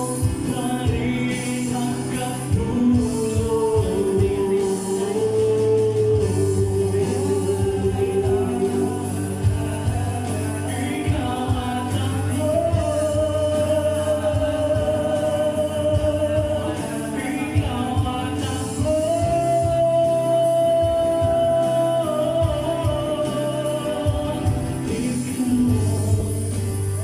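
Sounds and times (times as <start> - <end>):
acoustic guitar: 0.0 - 27.0
keyboard: 0.0 - 27.0
men singing: 0.0 - 27.0.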